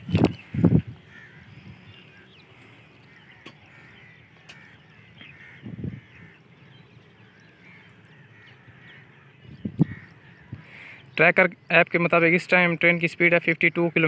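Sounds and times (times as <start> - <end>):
birds chirping and calling: 0.0 - 14.0.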